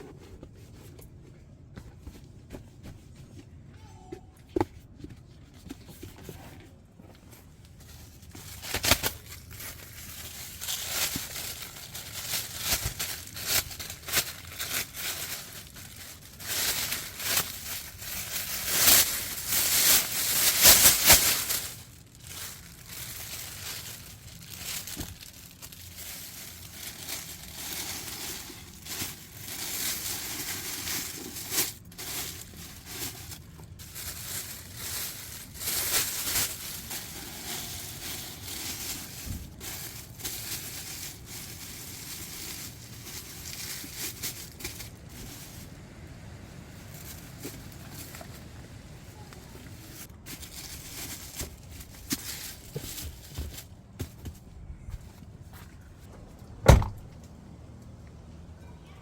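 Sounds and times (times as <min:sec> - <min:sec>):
crinkling material rustling: 0:04.8 - 0:56.1.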